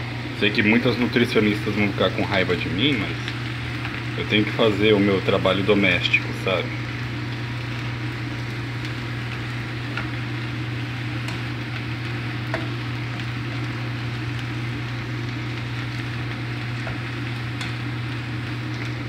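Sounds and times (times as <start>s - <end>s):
vegetables sizzling in a pan: 0.5s - 19.0s.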